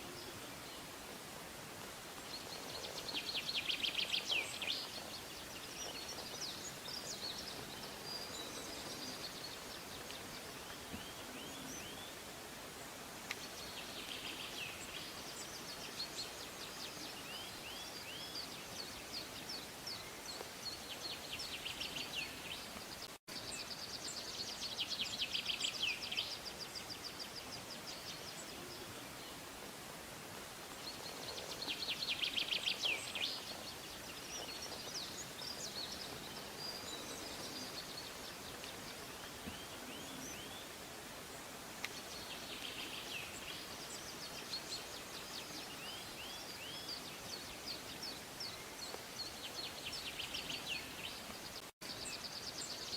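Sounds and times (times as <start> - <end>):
faint outdoor background: 0.0 - 52.9
songbirds singing: 0.0 - 52.9.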